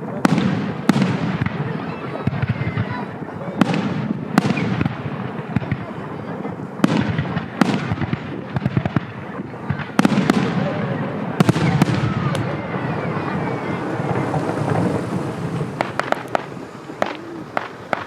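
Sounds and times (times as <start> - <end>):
faint firework whistles: 0.0 - 18.0
fireworks bangs and crackling: 0.0 - 18.0.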